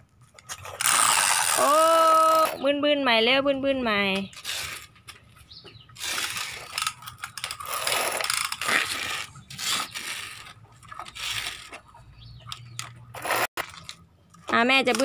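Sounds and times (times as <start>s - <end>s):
plastic toy wheels rolling on concrete: 0.2s - 2.8s, 3.5s - 15.0s.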